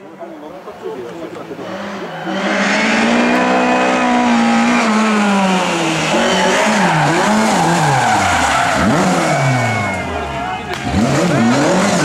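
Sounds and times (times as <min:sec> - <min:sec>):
race car engines revving: 0:00.3 - 0:12.0.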